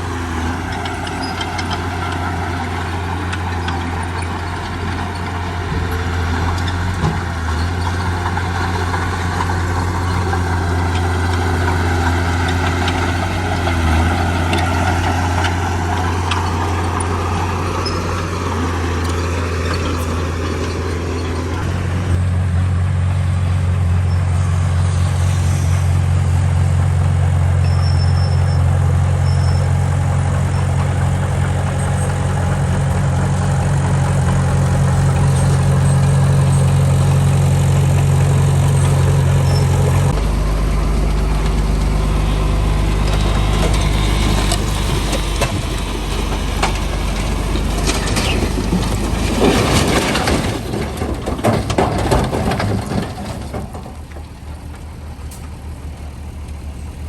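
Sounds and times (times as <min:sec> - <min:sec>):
knocks and clatter: 0:00.0 - 0:22.3, 0:26.0 - 0:55.8
heavy diesel engine running: 0:00.0 - 0:57.0.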